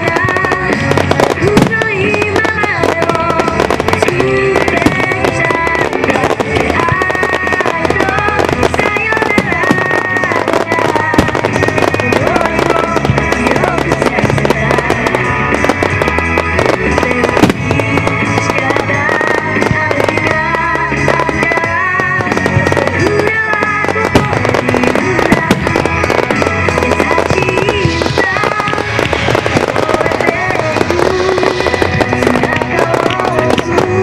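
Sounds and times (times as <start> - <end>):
fireworks bursting and crackling: 0.0 - 34.0
loud music with melody: 0.0 - 34.0.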